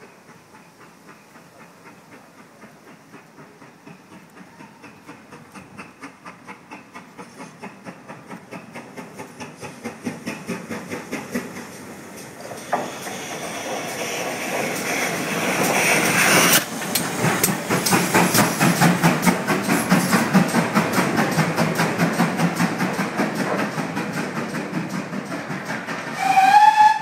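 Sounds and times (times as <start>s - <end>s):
steam locomotive hissing: 0.0s - 27.0s
train wheels clicking over rail joints: 0.0s - 27.0s.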